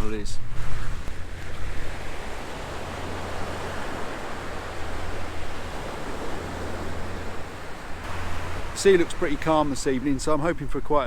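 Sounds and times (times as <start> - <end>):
wind and sea rushing: 0.0 - 11.0
wind rumble on microphone: 0.0 - 11.0.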